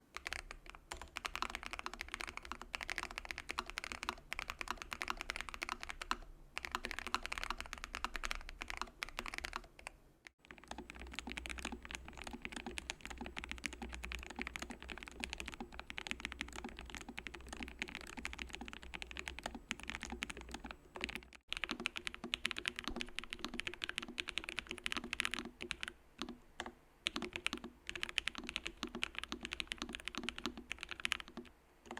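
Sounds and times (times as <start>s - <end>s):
mechanical keyboard typing: 0.2s - 31.9s.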